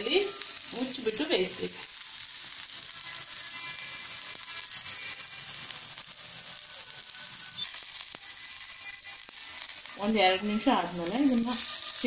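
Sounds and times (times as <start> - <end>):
potato slices frying in oil: 0.0 - 12.0.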